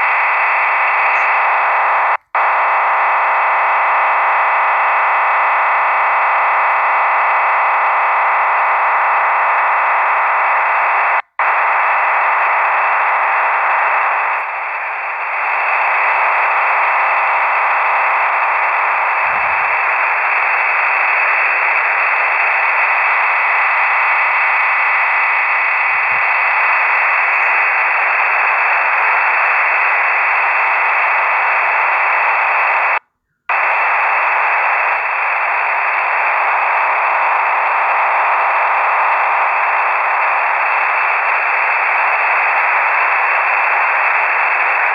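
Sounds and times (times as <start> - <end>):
shortwave radio hiss: 0.0 - 44.9.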